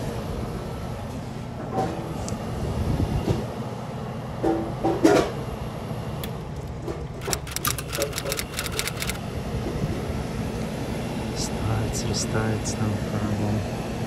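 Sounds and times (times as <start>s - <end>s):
freezer compressor humming: 0.0s - 14.0s.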